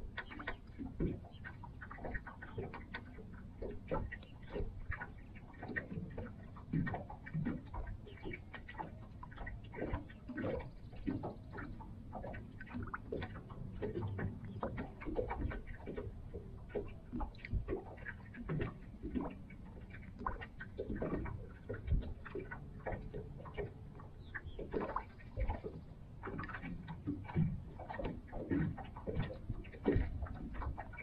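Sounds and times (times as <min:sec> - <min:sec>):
waves lapping against hull: 0:00.0 - 0:31.0.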